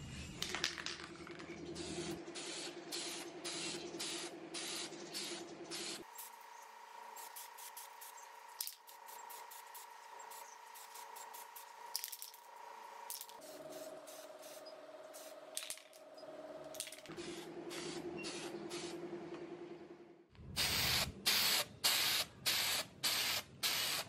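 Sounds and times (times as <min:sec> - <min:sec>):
spray paint hissing: 0:01.6 - 0:15.8, 0:16.8 - 0:19.0, 0:20.5 - 0:24.0.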